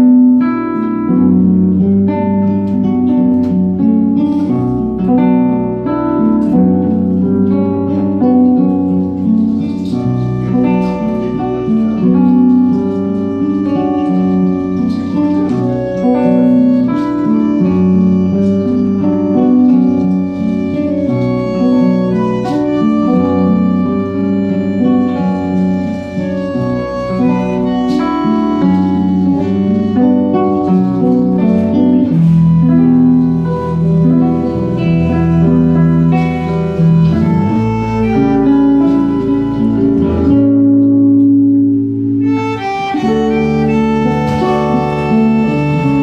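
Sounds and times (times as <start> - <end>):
live tango band music: 0.0 - 46.0.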